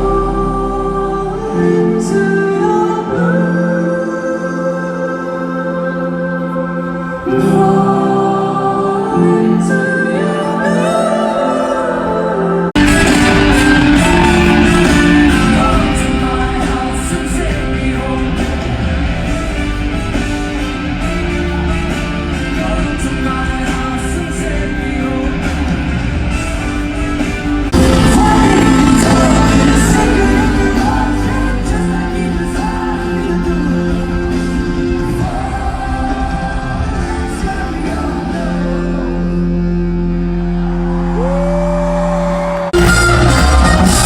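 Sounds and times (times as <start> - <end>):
live band with singing: 0.0 - 44.0.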